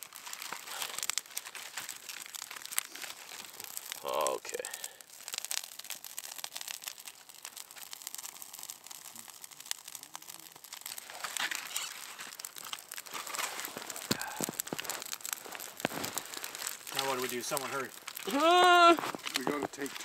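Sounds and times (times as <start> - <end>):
birch bark crackling as it burns: 0.0 - 20.0
rustling of tinder: 0.0 - 20.0.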